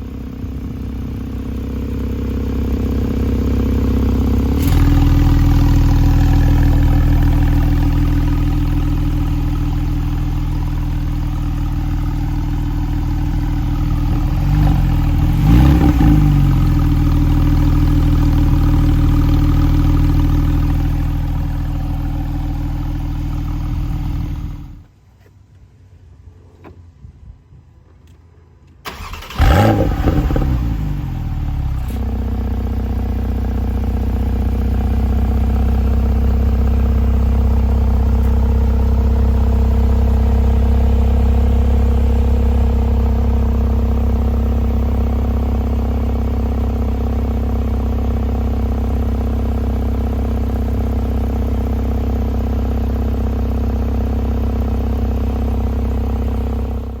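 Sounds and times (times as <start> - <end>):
car engine revving and idling: 0.0 - 24.9, 28.9 - 57.0.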